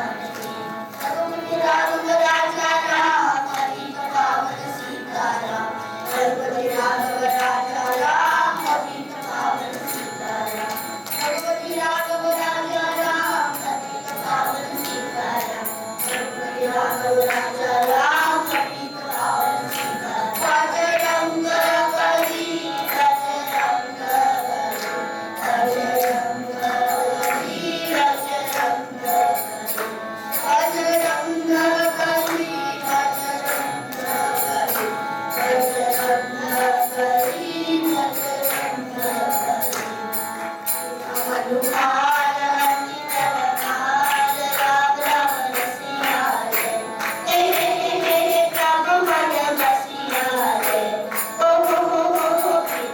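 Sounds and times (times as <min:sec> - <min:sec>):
jingling percussion: 0:00.0 - 0:52.9.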